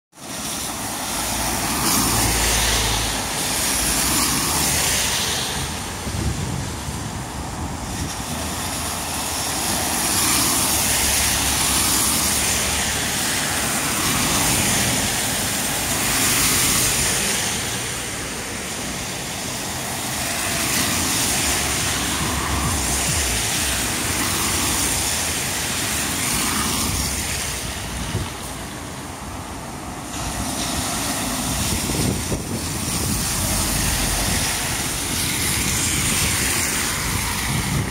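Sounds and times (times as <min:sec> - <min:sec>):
tyres splashing through floodwater: 0:00.1 - 0:37.9.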